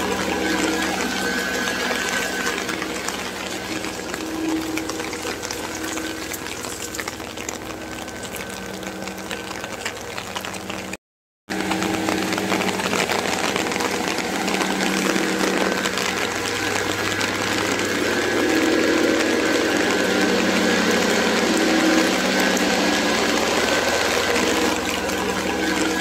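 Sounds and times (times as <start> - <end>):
low mechanical hum: 0.0 - 26.0
rain falling: 0.0 - 26.0.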